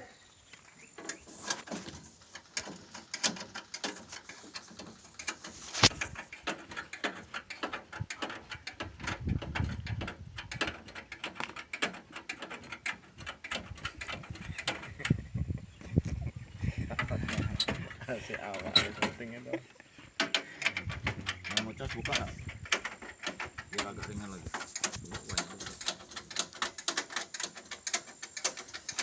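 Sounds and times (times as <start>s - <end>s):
tools clicking and knocking: 1.0s - 29.0s.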